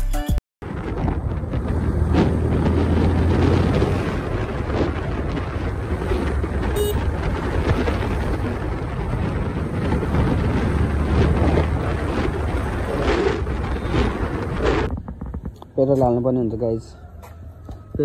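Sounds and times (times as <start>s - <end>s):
motorcycle engine hum: 0.6s - 18.0s
wind rushing over microphone: 0.6s - 18.0s.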